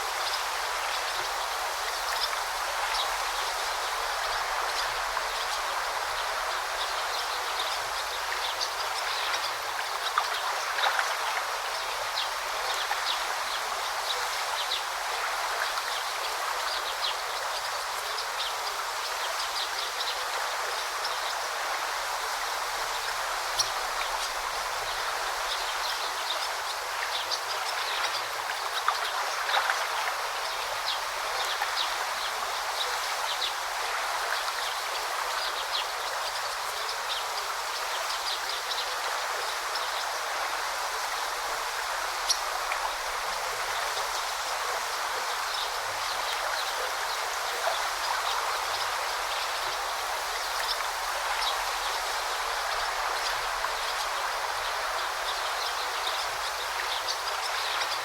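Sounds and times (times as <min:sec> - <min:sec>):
brook running: 0:00.0 - 0:58.0.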